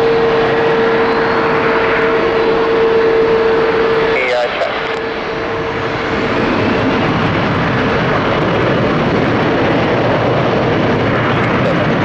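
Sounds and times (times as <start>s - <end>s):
jet airliner engines rushing: 0.0s - 12.0s.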